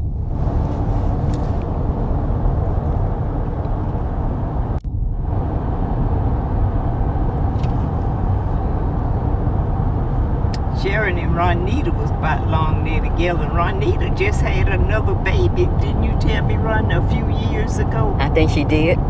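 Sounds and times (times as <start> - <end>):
road and engine rumble in cab: 0.0 - 19.0.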